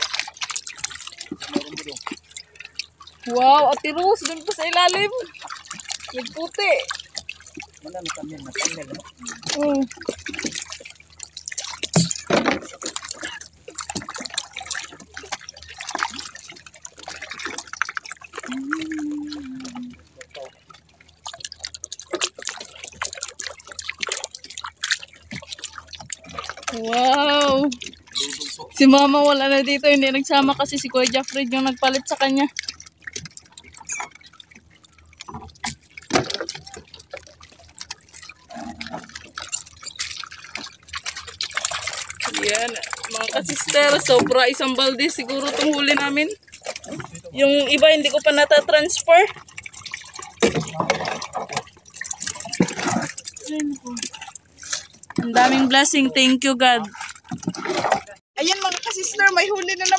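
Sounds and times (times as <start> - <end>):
seawater dripping and splashing: 0.0 - 59.9.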